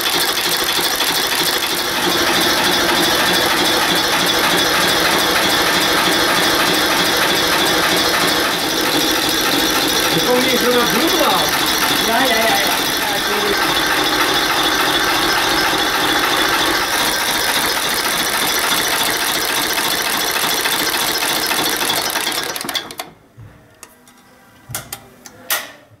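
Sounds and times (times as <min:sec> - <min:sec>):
diesel engine running: 0:00.0 - 0:22.4.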